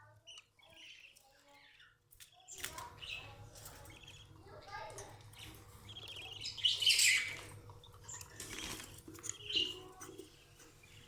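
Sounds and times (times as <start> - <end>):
budgerigars chirping and chattering: 0.0 - 11.0.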